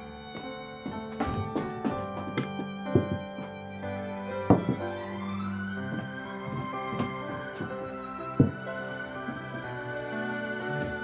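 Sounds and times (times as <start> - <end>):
slow sad music: 0.0 - 11.0.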